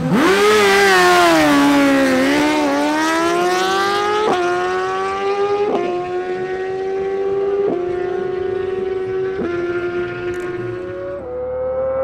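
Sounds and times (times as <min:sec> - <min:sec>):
motorcycle engines revving high: 0:00.0 - 0:12.0.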